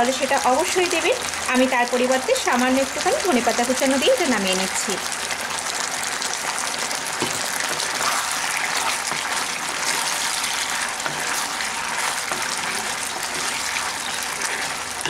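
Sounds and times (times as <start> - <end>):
sauce sizzling in hot pan: 0.0 - 15.0.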